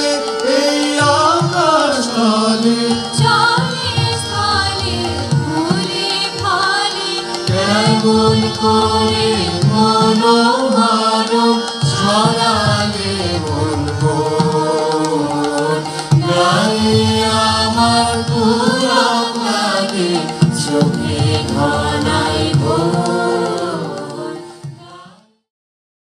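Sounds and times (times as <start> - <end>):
person singing ornamented melody: 0.0 - 25.3.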